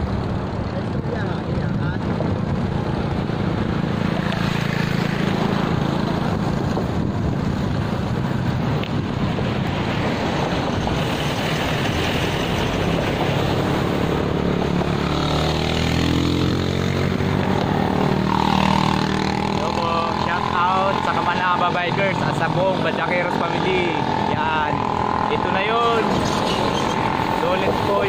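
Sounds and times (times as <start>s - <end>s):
road traffic passing: 0.0s - 28.0s
wind rumble on microphone: 0.0s - 28.0s.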